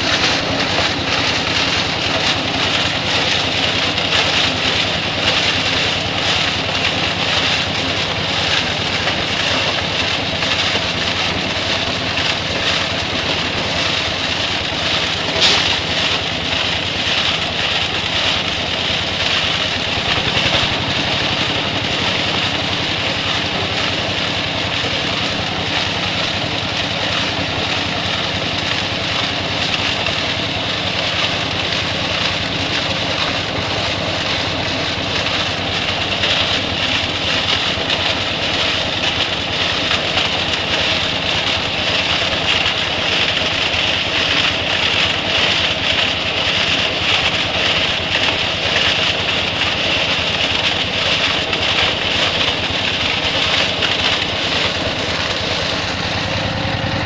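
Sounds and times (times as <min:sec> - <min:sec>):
concrete mixer running: 0:00.0 - 0:57.0.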